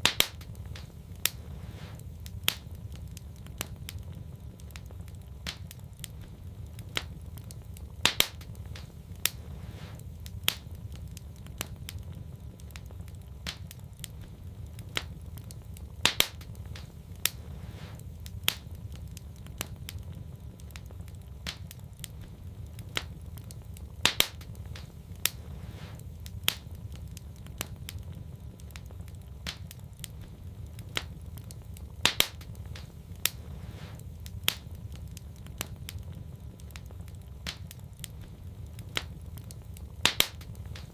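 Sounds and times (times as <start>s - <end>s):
steady low rumble: 0.0s - 40.9s
wood fire crackling and popping: 0.0s - 40.9s.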